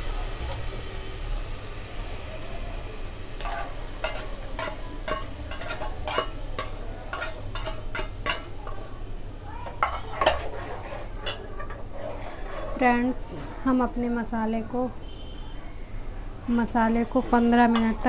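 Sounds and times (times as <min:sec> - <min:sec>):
faint oil sizzle: 0:00.0 - 0:18.0.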